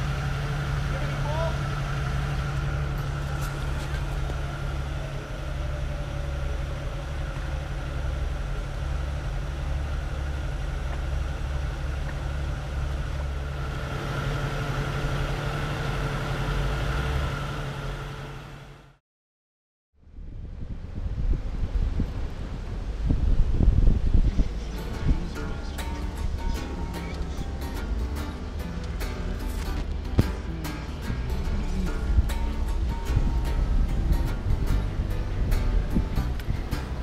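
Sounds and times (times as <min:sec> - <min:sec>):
engine idling: 0:00.0 - 0:19.0, 0:21.8 - 0:37.0.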